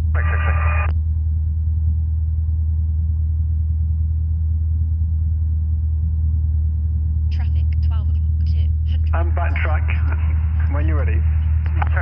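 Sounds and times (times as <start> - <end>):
light aircraft engine droning: 0.1 - 12.0.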